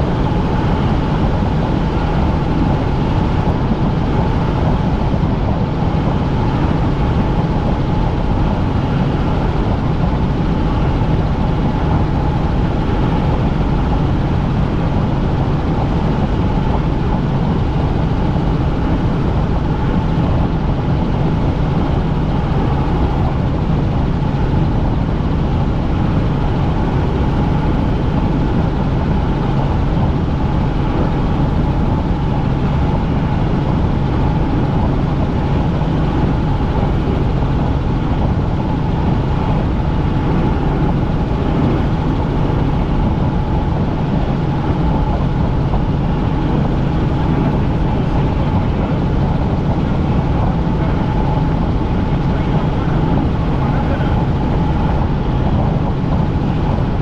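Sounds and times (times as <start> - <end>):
helicopter engine and rotor drone: 0.0 - 57.0
steady whine: 0.0 - 57.0.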